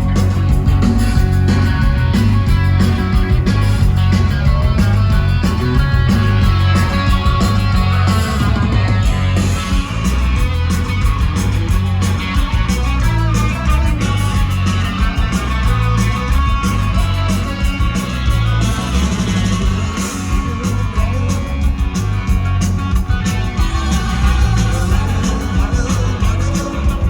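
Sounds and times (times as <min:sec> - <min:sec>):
bass guitar: 0:00.0 - 0:27.0
drums: 0:00.0 - 0:27.0
electric guitars: 0:00.0 - 0:27.0.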